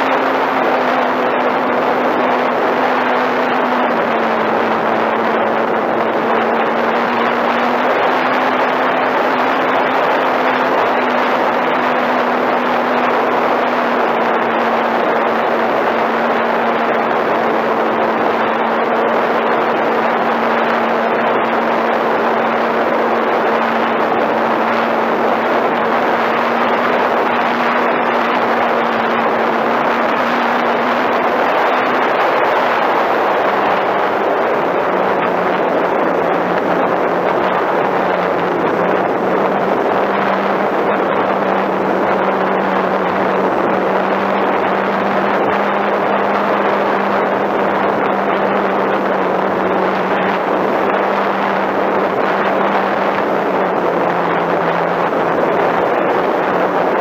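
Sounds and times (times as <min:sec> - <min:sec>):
air rushing over microphone: 0:00.0 - 0:57.0
model airplane motor humming: 0:00.0 - 0:57.0.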